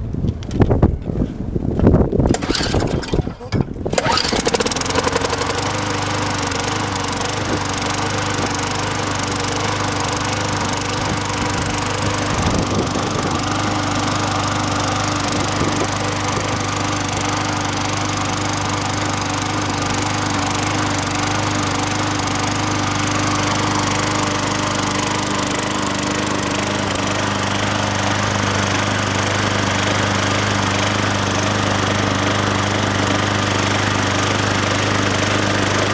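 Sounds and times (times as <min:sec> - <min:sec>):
lawn mower engine running: 0:02.2 - 0:35.9.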